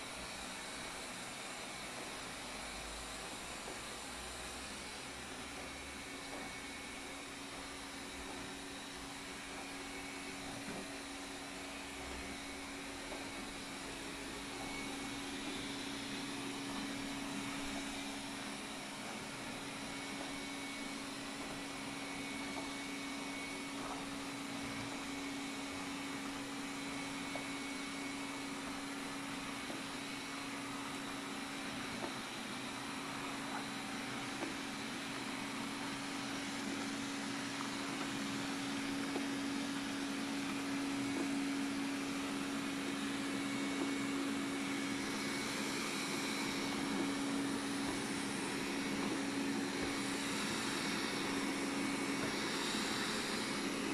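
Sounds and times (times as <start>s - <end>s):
robot vacuum motor hum: 0.1s - 53.9s.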